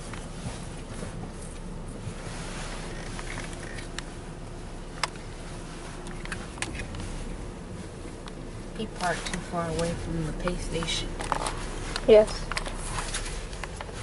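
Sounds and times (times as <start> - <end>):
car idling hum: 0.0 - 14.0.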